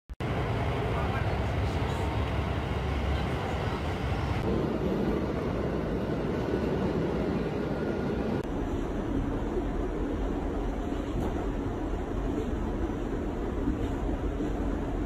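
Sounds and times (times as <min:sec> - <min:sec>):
subway train rumbling: 0:00.2 - 0:15.0.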